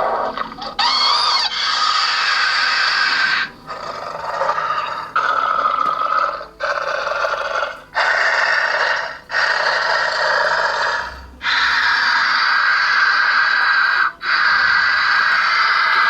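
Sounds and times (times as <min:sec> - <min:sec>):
raspy creature hisses from speaker: 0:00.0 - 0:16.0.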